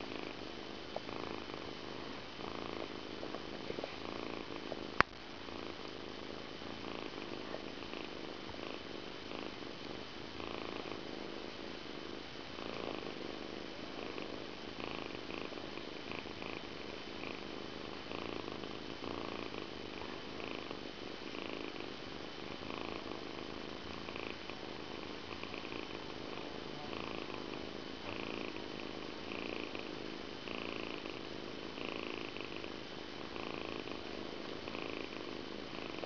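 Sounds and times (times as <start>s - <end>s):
kitten purring: 0.0s - 36.0s.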